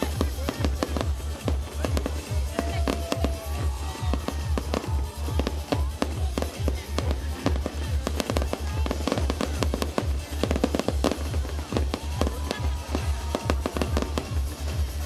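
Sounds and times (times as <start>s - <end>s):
fireworks bangs and crackles: 0.0s - 15.0s
music with fast bass beat: 0.0s - 15.0s.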